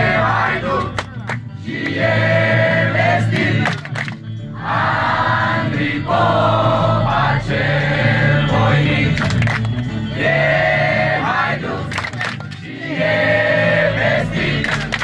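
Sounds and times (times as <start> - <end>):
group of people singing: 0.0 - 1.0, 1.6 - 3.9, 4.5 - 15.0.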